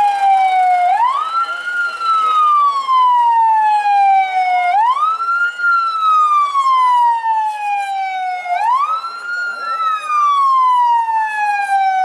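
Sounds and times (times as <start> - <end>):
fire truck siren wailing: 0.0 - 12.0.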